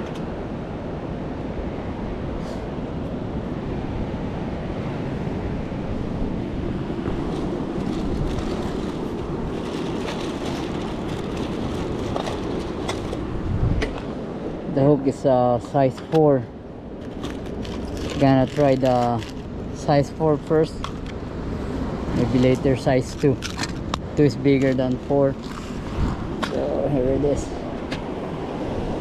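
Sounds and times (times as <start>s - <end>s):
surf at rock jetty: 0.0s - 29.0s
wind on microphone: 0.0s - 29.0s.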